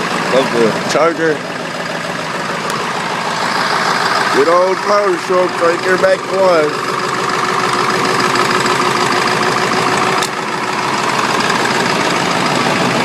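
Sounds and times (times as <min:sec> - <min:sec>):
diesel engine idling clatter: 0:00.0 - 0:13.0.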